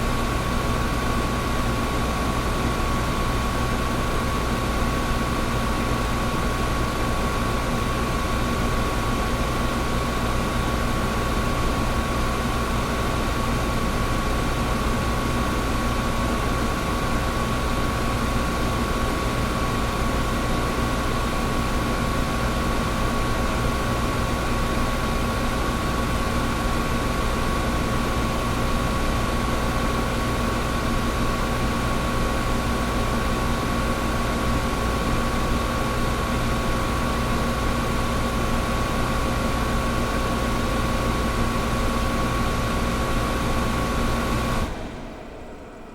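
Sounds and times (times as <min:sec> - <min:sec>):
air conditioner running: 0:00.0 - 0:45.9.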